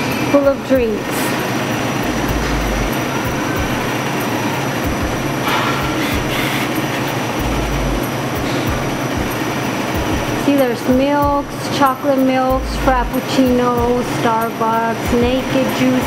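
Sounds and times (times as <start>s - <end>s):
ventilation machinery whirring: 0.0s - 16.0s.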